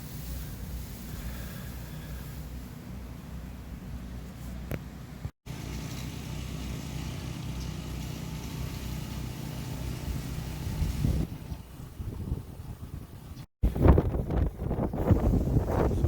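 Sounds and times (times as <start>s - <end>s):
low engine-like hum with hiss: 0.0s - 13.5s.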